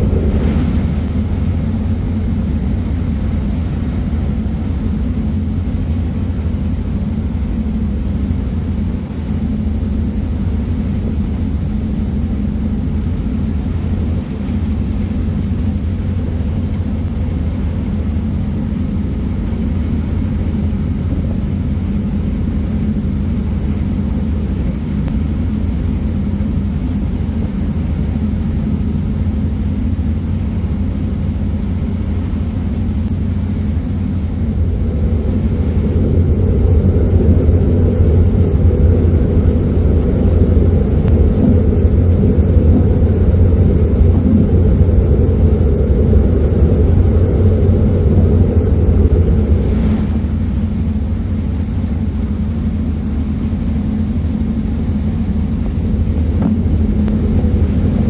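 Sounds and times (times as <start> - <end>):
ferry engines rumbling: 0.0 - 58.0
wake rushing: 0.0 - 58.0
wind: 0.0 - 58.0.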